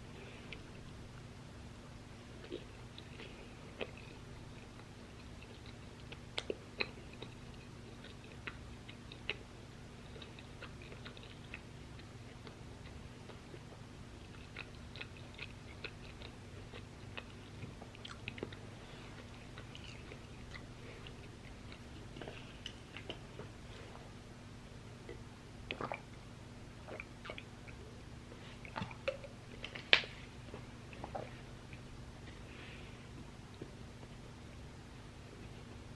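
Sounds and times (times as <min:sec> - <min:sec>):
steady low hum: 0:00.0 - 0:35.9
chewing crunchy fries: 0:02.2 - 0:24.2, 0:24.8 - 0:34.4.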